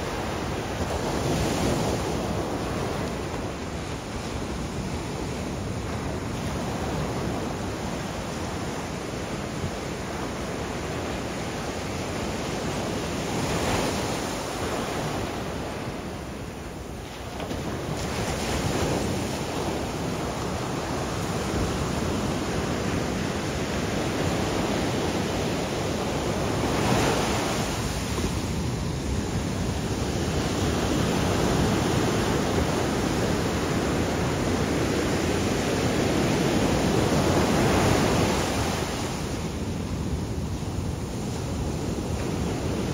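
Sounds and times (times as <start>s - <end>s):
waves breaking on a beach: 0.0s - 42.9s.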